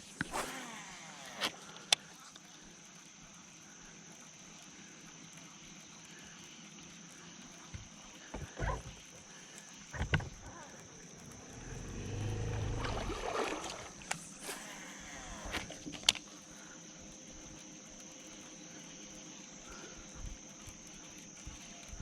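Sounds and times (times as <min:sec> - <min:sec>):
high insect drone: 0:00.0 - 0:22.0
small motor humming: 0:00.0 - 0:22.0.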